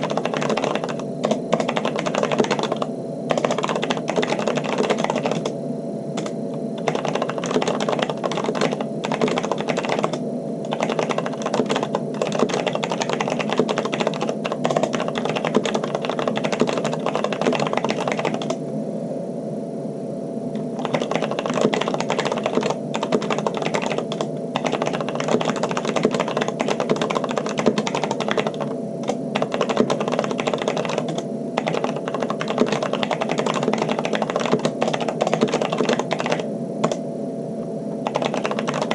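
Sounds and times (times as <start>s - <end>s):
fast typing on mechanical keyboard: 0.0s - 5.6s, 6.2s - 18.6s, 20.8s - 37.0s, 38.0s - 38.9s.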